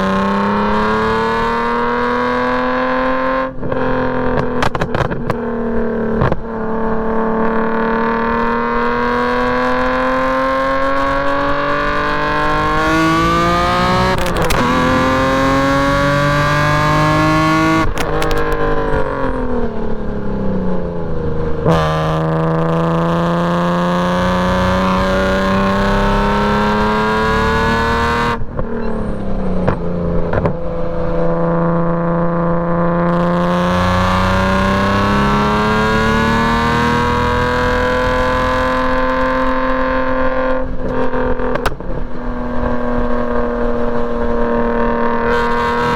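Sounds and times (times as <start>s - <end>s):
car engine revving with gear shifts: 0.0s - 45.9s.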